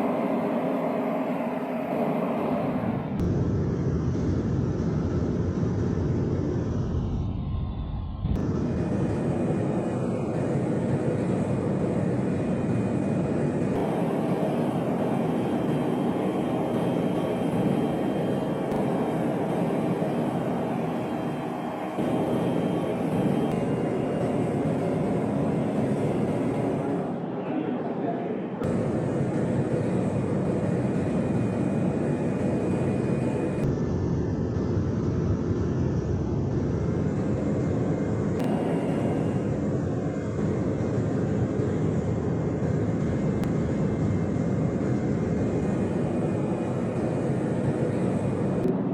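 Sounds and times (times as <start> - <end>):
aircraft engines roaring: 0.0 - 48.9.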